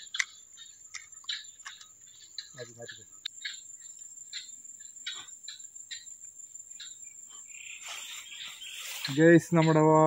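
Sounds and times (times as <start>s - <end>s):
insect chirps: 0.0s - 10.0s
insects whining: 0.0s - 10.0s.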